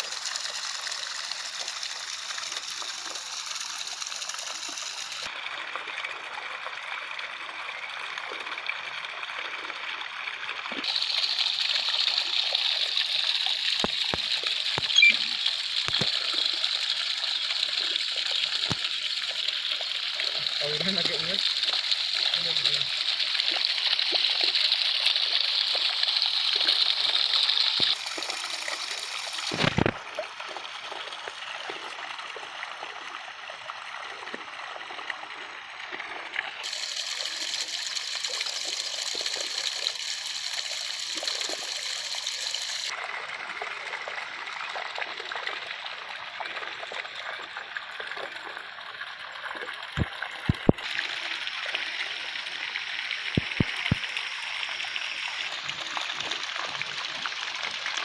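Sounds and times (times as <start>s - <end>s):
running water trickling: 0.0s - 58.0s.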